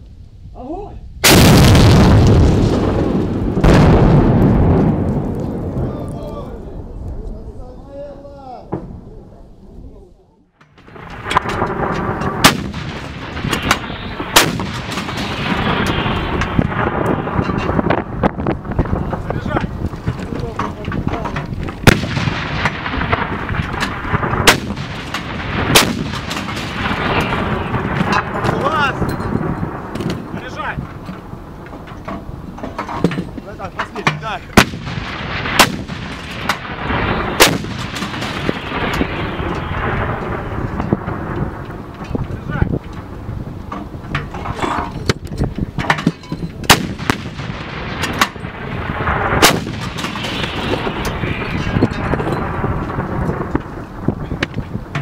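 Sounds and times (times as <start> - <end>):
howitzer blasts: 1.2 - 7.7, 10.4 - 55.0
rolling rumble: 1.2 - 55.0.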